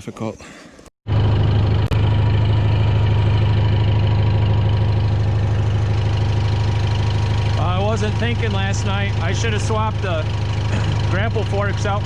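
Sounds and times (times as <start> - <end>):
tractor diesel engine idling: 1.1 - 12.0.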